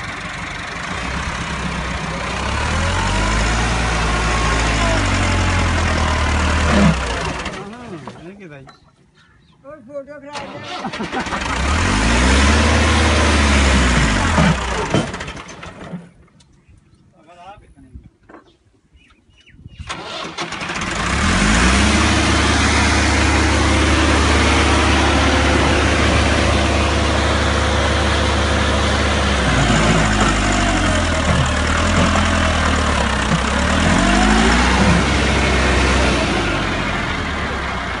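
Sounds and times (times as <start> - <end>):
tractor diesel engine under load: 0.0 - 8.6, 10.3 - 16.2, 19.9 - 38.0.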